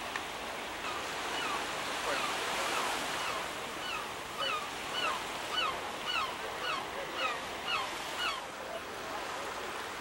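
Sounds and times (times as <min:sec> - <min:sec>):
surf and wind hiss: 0:00.0 - 0:10.0.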